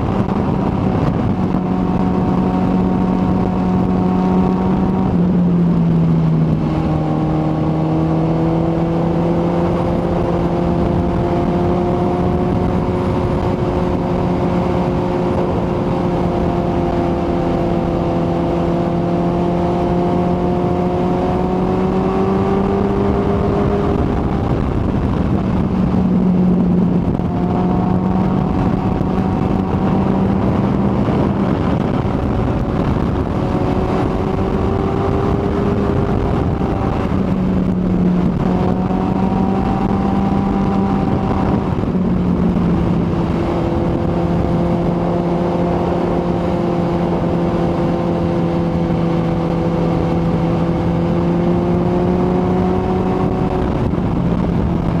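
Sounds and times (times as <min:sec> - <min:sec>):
motorcycle engine running: 0:00.0 - 0:55.0
wind rush: 0:00.0 - 0:55.0.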